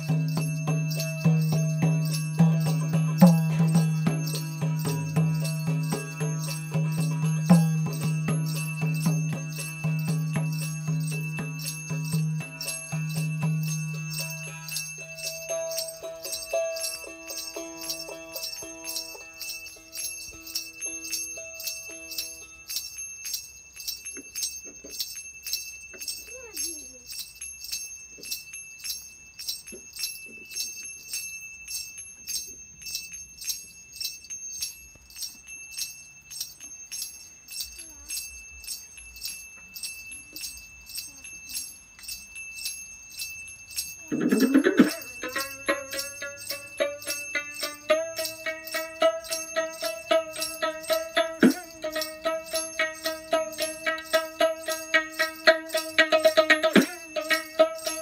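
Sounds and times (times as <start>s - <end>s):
small metal bells jingling: 0.0s - 58.0s.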